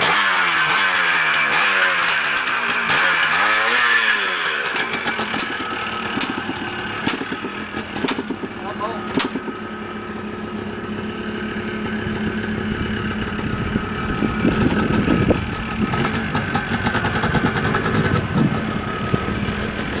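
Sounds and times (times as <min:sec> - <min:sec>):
dirt bike engines running: 0:00.0 - 0:20.0
motorcycle throttle revs: 0:00.0 - 0:20.0.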